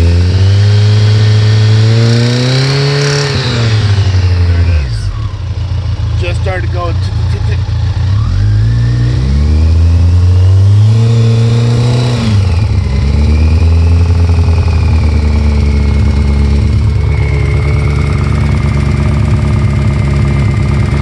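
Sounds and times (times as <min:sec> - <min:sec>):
engine knock: 0:00.0 - 0:11.6, 0:12.5 - 0:21.0
motorcycle engine revving: 0:00.0 - 0:21.0.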